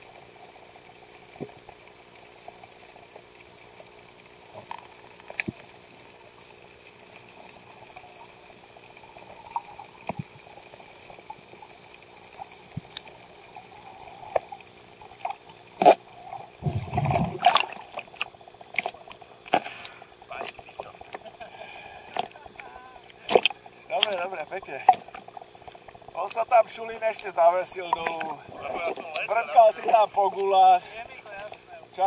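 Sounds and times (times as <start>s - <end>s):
splashing and bubbling: 0.0s - 26.5s, 27.1s - 30.1s
muffled underwater water sound: 0.0s - 32.0s.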